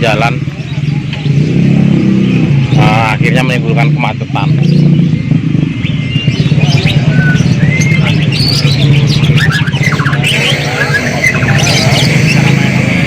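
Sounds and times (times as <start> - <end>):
birds chirping and whistling: 0.0 - 13.0
vehicle engine running: 0.0 - 13.0.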